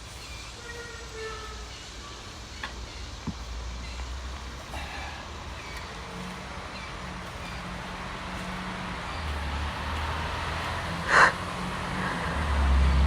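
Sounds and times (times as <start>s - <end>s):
distant road traffic: 0.0s - 13.0s.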